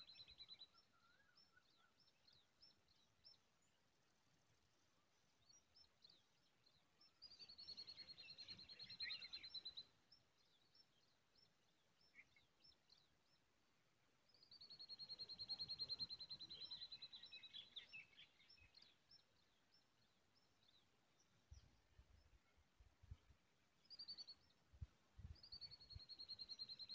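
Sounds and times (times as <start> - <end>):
bird chirps: 0.0 - 3.8, 5.4 - 13.5, 14.2 - 26.9.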